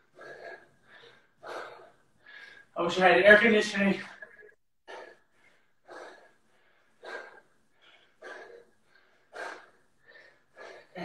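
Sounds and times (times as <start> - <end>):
man breathing hard: 0.0 - 2.8, 4.9 - 11.0.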